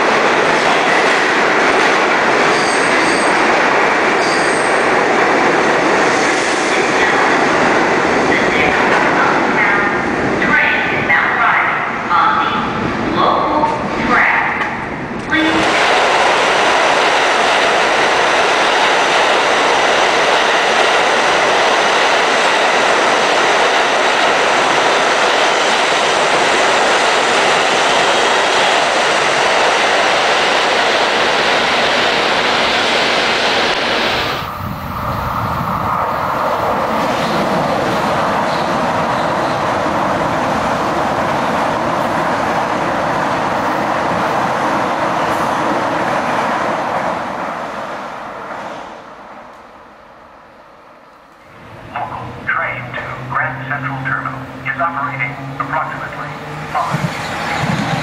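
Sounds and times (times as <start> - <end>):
dull rumble of train: 0.0 - 49.6, 51.1 - 58.0
train wheels roaring on rails: 0.0 - 58.0.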